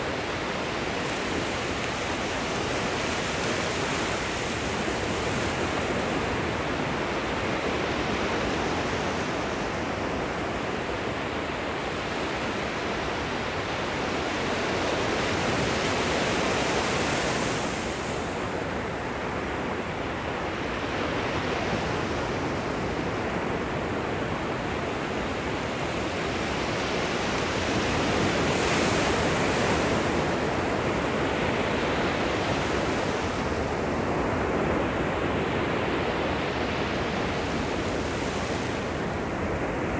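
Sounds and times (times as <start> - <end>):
gentle surf on a beach: 0.0 - 39.9.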